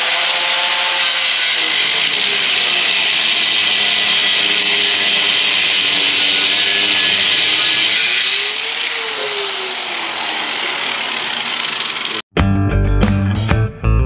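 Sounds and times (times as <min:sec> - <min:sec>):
cut-off wheel grinding metal: 0:00.0 - 0:12.2.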